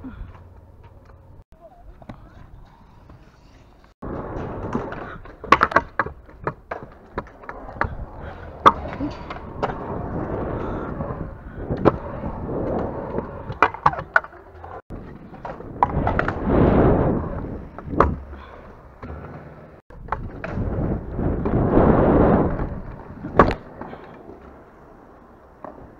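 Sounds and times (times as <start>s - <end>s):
scooter wheels rolling on concrete: 0.0s - 25.9s.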